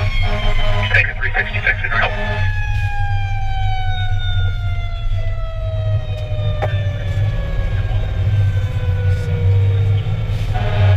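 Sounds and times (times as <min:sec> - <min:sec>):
fire engine siren winding down: 0:00.0 - 0:10.9
low engine rumble: 0:00.0 - 0:10.9.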